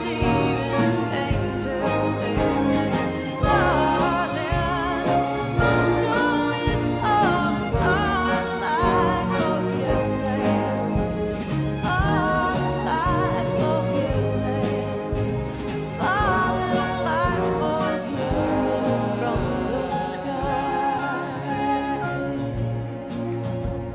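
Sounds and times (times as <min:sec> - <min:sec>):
orchestra playing slow christmas song: 0:00.0 - 0:23.9.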